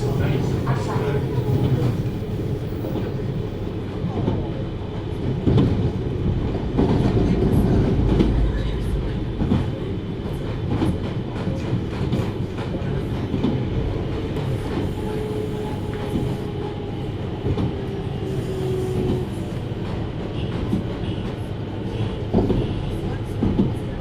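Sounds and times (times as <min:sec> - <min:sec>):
train rolling rumble: 0:00.0 - 0:24.0.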